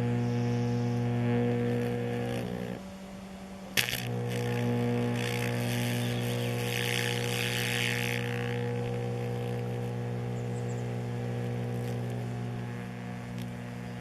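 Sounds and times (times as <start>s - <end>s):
crackling hiss of electric arc: 0.0s - 14.0s
electrical hum: 0.0s - 14.0s.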